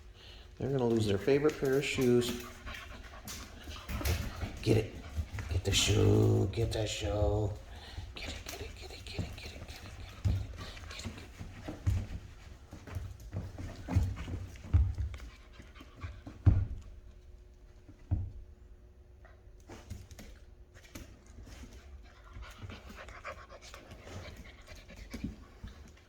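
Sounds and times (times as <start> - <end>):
puppies panting: 0.0 - 17.1, 20.8 - 26.0.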